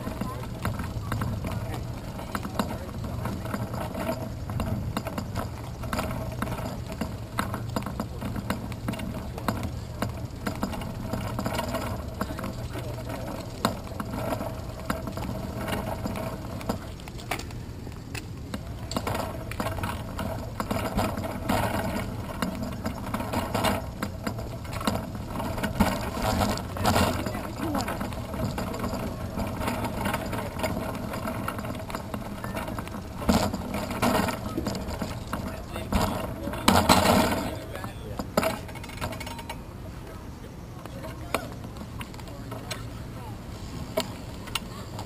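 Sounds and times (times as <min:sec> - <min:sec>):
bicycle freewheel ticking: 0:00.0 - 0:37.0
cycling shoes clicking on pavement: 0:00.0 - 0:45.0
distant traffic hum: 0:00.0 - 0:45.0
loose bike parts rattling: 0:00.0 - 0:45.0.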